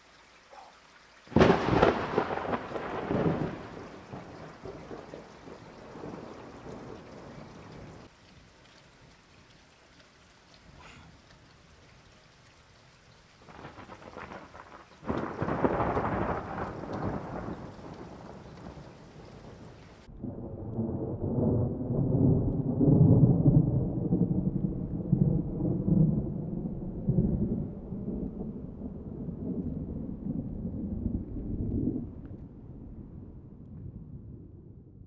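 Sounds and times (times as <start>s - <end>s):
light rain falling: 0.0s - 34.6s
low rumble of thunder: 1.3s - 8.1s, 13.1s - 35.0s
thunder crack: 1.3s - 8.1s, 13.4s - 34.9s.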